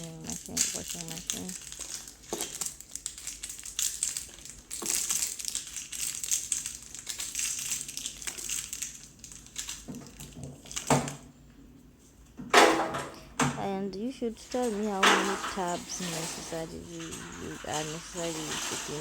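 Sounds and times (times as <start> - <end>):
packaging crinkling: 0.0 - 11.2, 14.0 - 19.0.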